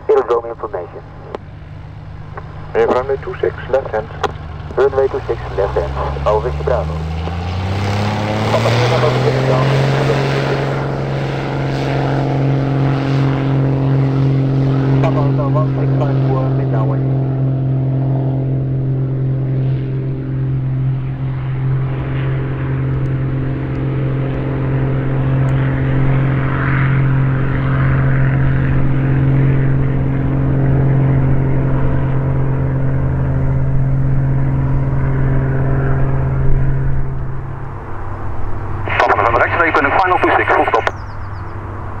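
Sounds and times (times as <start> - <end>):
aircraft engine and propeller drone: 0.0 - 42.0.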